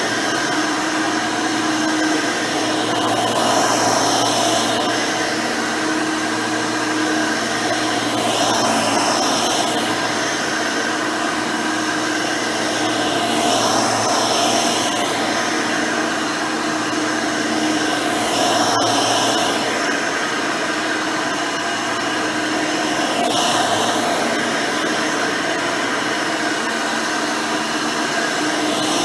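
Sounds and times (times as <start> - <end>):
upright vacuum running: 0.0 - 29.0.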